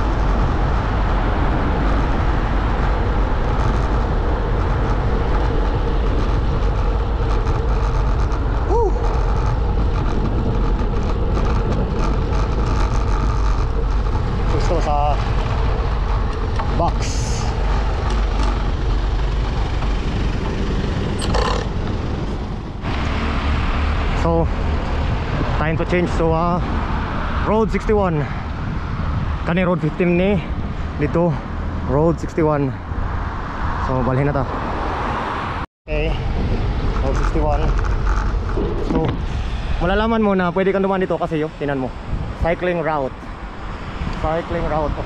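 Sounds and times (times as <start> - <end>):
cars passing: 0.0 - 45.0
wind and road noise on microphone: 0.0 - 45.0.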